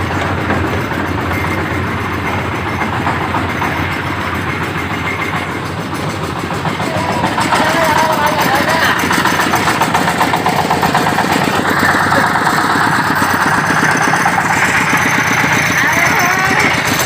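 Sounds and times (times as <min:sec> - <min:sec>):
corn sheller clattering: 0:00.0 - 0:17.0
engine running: 0:00.0 - 0:17.0.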